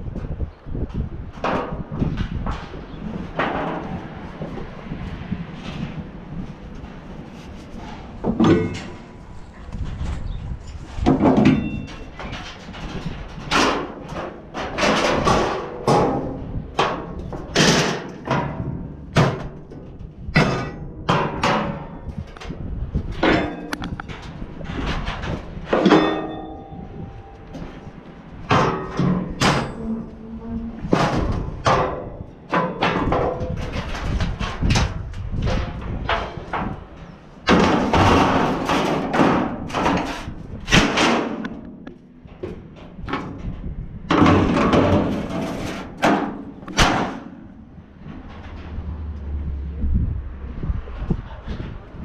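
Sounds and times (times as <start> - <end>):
metal clanks and bangs: 0.0 - 49.5
metal scraping: 1.4 - 49.6.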